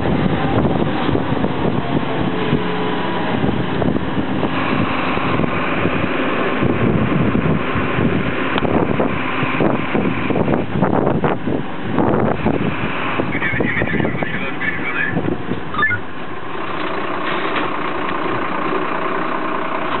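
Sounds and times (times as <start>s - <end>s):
wind rumbling on microphone: 0.0s - 18.6s
diesel engine: 0.0s - 20.0s
road noise: 0.0s - 20.0s.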